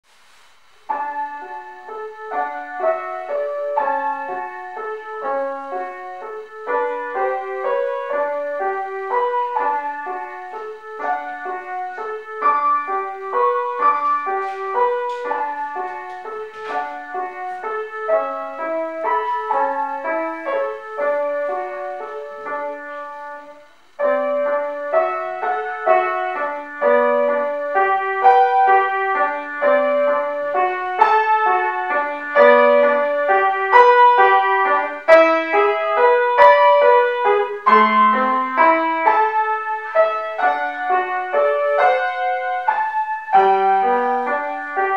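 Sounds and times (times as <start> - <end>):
solo piano piece: 0.1 - 44.9.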